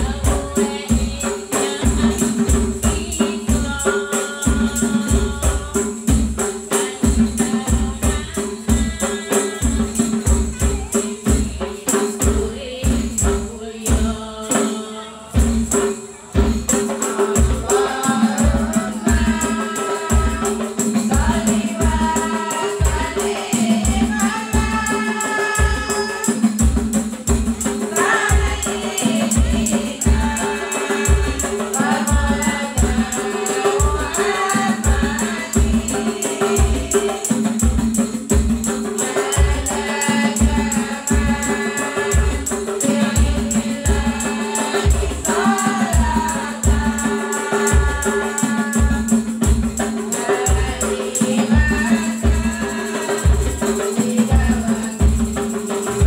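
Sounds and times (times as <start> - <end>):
frame drums beating: 0.0 - 56.0
women singing in unison: 0.0 - 56.0.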